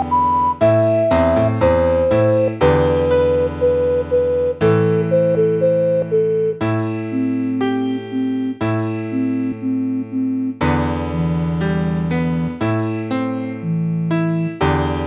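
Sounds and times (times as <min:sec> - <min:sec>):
keyboard playing slow chords: 0:00.0 - 0:15.0.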